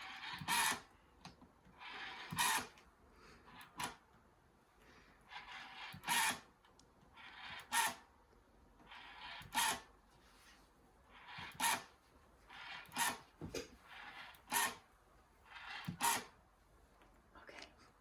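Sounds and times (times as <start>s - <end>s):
rotary dial whirring and clicking: 0.0s - 4.5s, 5.2s - 10.2s, 10.9s - 16.6s.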